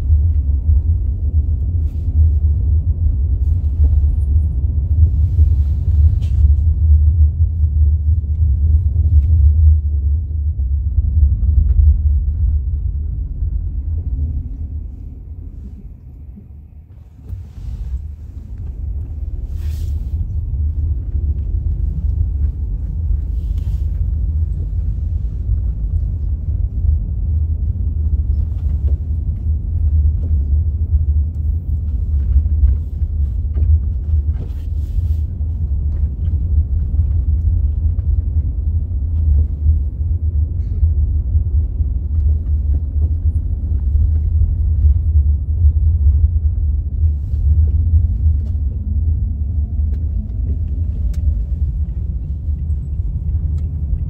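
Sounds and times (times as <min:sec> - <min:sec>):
bus cabin rumble: 0:00.0 - 0:54.0.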